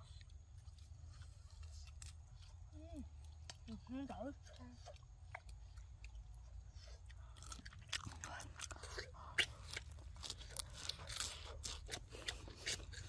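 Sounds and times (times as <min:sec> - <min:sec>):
lettuce crunching being chewed: 0:00.0 - 0:13.0.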